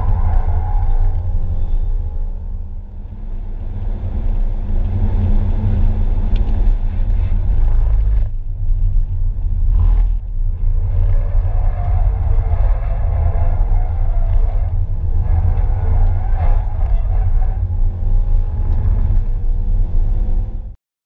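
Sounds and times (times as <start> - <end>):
car engine and road noise: 0.0 - 20.8.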